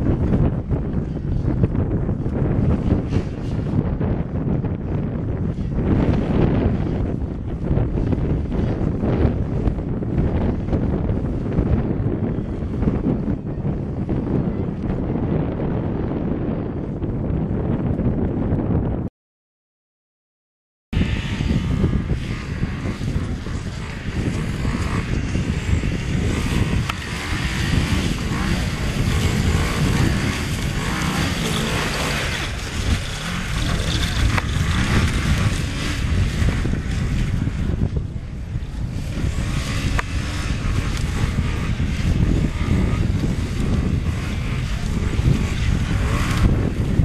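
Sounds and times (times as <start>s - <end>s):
snowmobile engine running: 0.0s - 16.4s, 21.0s - 47.0s.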